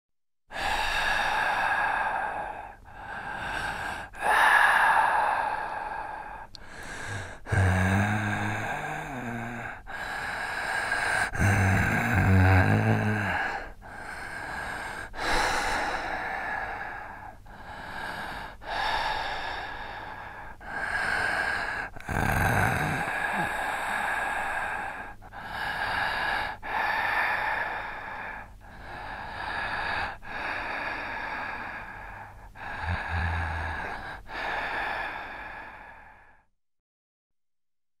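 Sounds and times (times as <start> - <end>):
heavy human breathing: 0.5 - 36.5.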